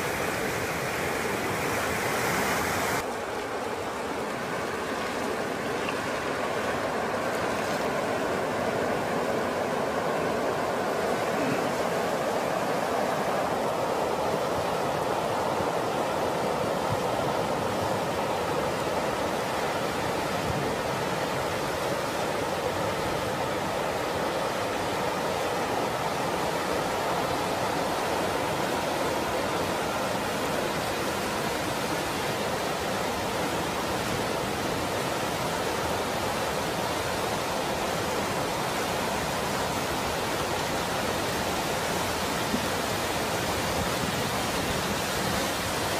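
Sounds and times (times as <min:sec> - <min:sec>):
flood water rushing: 0:00.0 - 0:45.9.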